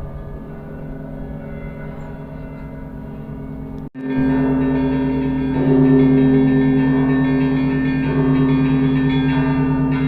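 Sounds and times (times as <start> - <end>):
church bells ringing: 0.0 - 10.0
deep bell hum: 0.0 - 10.0.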